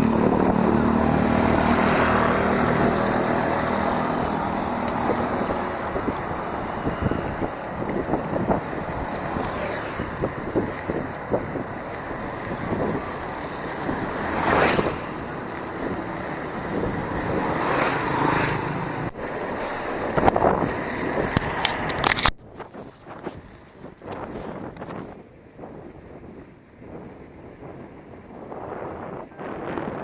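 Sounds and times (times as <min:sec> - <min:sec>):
bicycle rattling over dirt trail: 0:00.0 - 0:25.2
wind buffeting microphone: 0:00.0 - 0:30.0.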